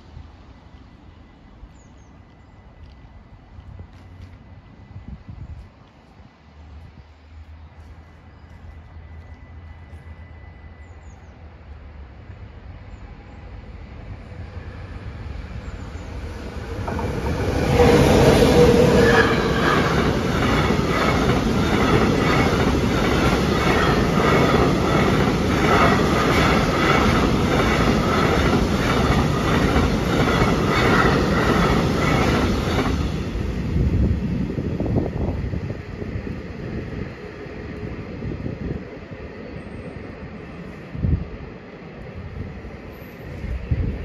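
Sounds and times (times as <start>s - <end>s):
freight train passing: 0.0s - 44.0s.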